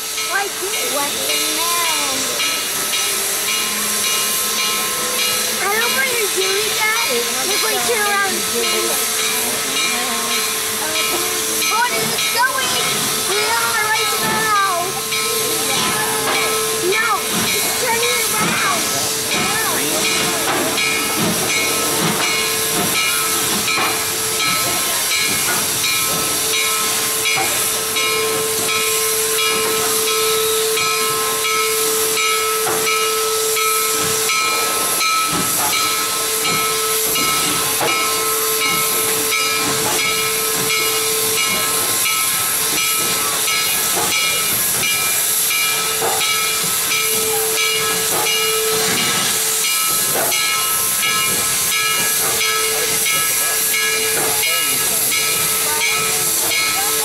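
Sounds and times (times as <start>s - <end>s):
steam locomotive venting steam: 0.0s - 57.0s.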